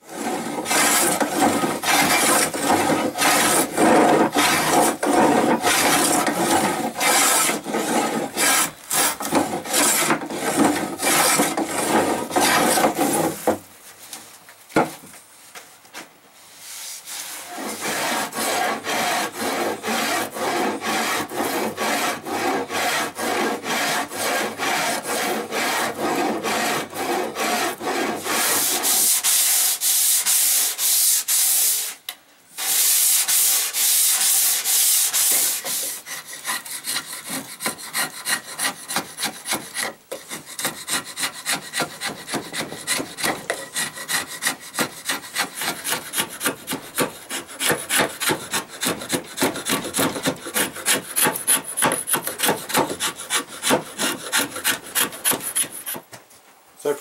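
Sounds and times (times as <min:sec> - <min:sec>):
hand tool scraping wood: 0:00.0 - 0:14.2, 0:16.6 - 0:32.0, 0:32.6 - 0:56.1.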